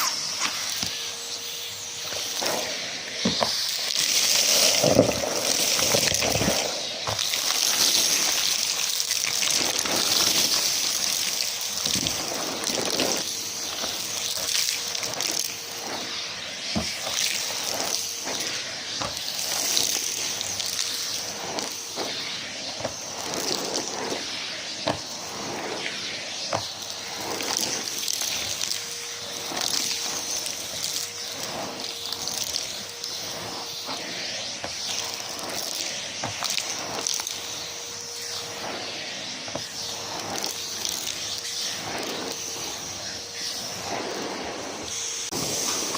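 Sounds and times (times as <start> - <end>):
vacuum cleaner motor whine: 0.0 - 45.9.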